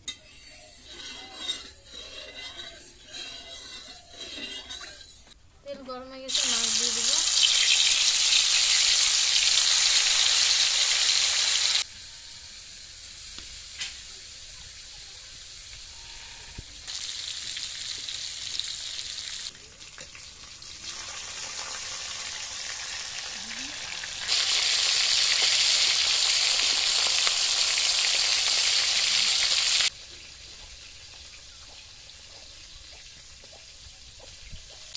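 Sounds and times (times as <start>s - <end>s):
fish sizzling in hot oil: 6.3s - 16.1s, 16.7s - 34.9s.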